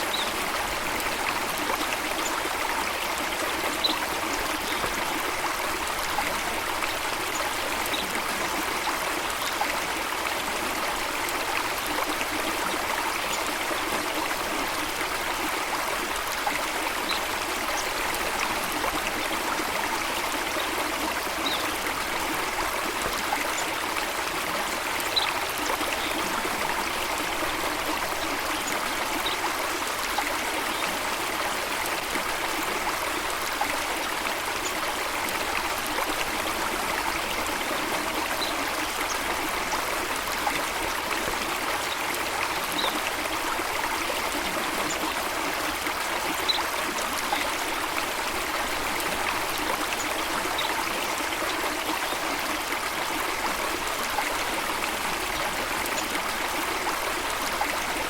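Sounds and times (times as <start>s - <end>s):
cascading water rushing: 0.0s - 58.0s.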